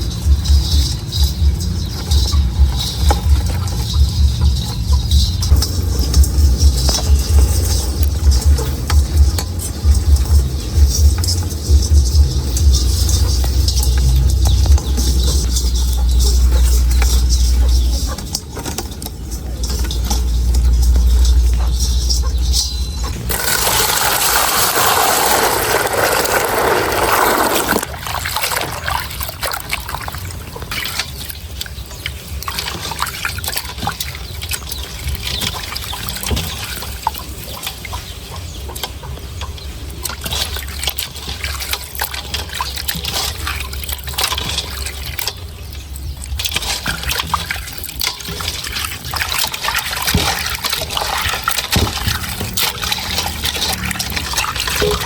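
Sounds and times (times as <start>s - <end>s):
water trickling and sloshing: 0.0s - 55.0s
water gushing: 2.8s - 55.0s.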